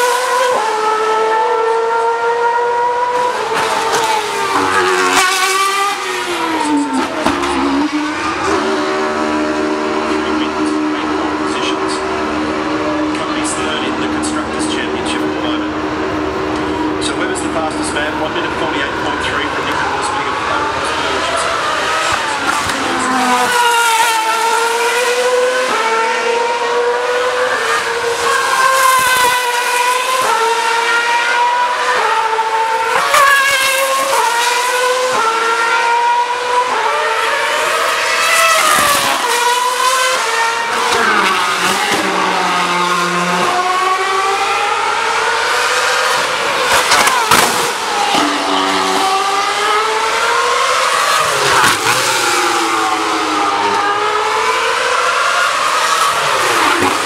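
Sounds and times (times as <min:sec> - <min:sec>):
racing cars passing at high revs: 0:00.0 - 0:57.0.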